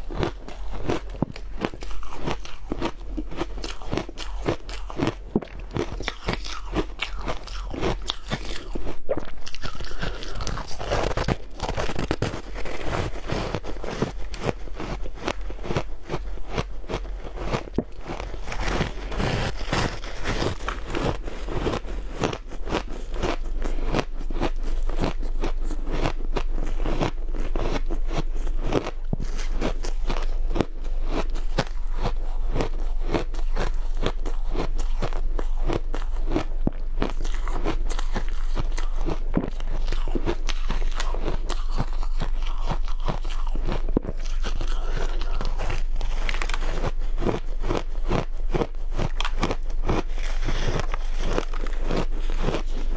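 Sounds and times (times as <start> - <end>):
chewing crunchy ice: 0.0 - 52.9
faint low hum: 0.0 - 52.9.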